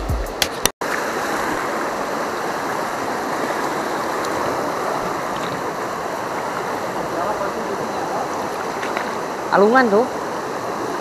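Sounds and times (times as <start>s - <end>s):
river water rushing over rocks: 0.8s - 11.0s.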